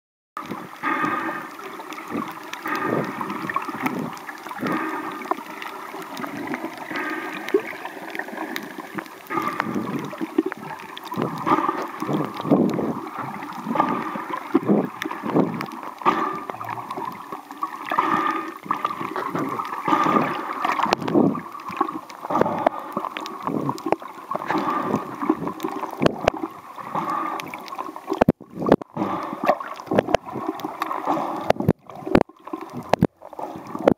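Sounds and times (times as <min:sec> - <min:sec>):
underwater gurgling and sloshing: 0:00.4 - 0:33.9.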